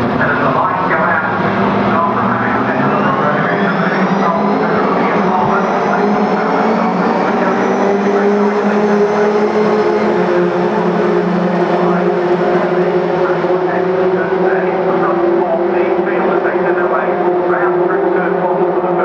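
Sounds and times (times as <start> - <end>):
race car engines accelerating: 0.0 - 19.0.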